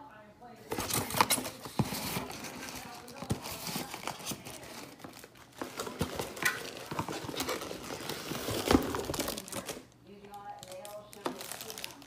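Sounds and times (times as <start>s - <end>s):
plastic packaging crinkling: 0.6s - 12.0s.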